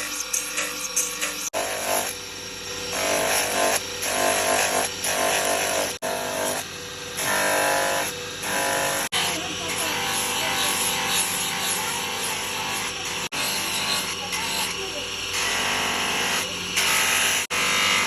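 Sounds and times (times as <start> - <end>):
electric power tool buzzing: 0.0 - 18.0.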